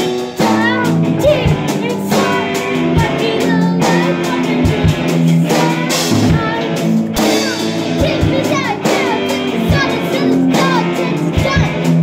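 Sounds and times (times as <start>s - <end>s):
drum kit: 0.0s - 12.0s
electric guitar: 0.0s - 12.0s
keyboard: 0.0s - 12.0s
person singing: 0.4s - 12.0s.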